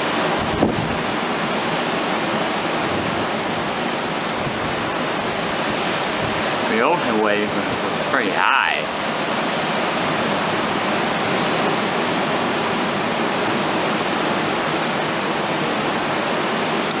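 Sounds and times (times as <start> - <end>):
heavy surf breaking on beach: 0.0 - 17.0.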